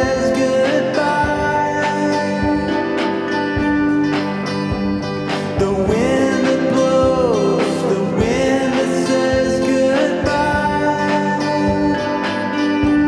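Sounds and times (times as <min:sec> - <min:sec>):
guitar-led country band music: 0:00.0 - 0:13.0.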